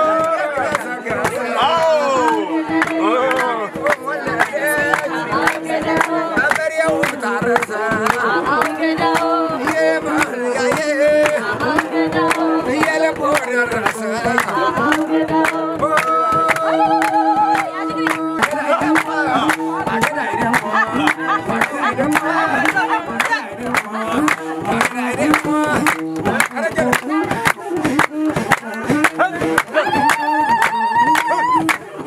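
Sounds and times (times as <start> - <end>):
rhythmic hand-clapping: 0.0 - 32.0
voices singing together: 0.0 - 32.0.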